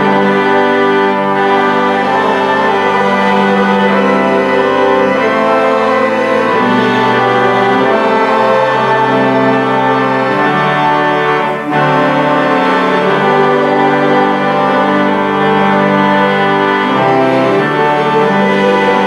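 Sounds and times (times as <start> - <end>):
church organ playing a hymn: 0.0 - 19.0.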